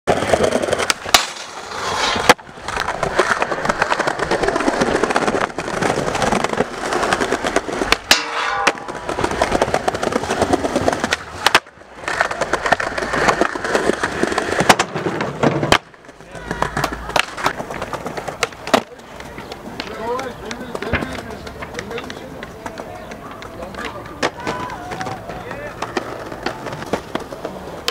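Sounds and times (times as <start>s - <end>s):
skateboard clacks: 0.1s - 27.9s
skateboard wheels rolling on stone: 0.1s - 27.9s.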